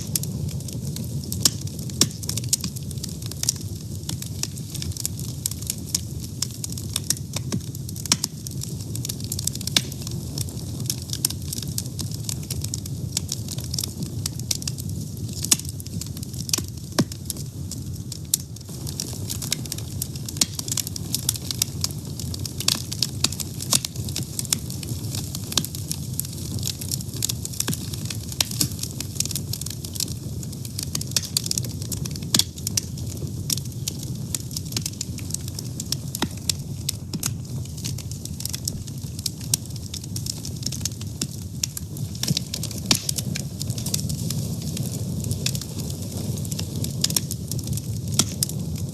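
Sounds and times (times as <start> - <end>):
low rumble of flames: 0.0 - 48.9
wood fire crackling and popping: 0.0 - 48.9.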